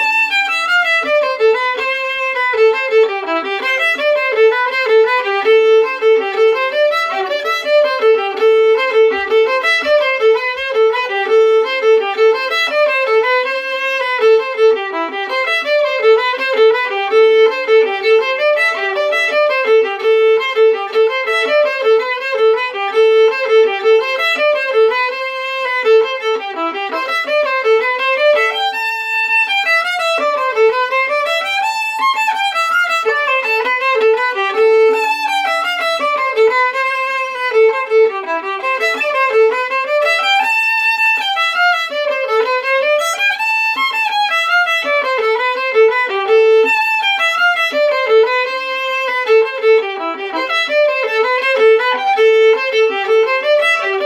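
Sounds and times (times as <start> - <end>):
solo fiddle playing: 0.0 - 54.0.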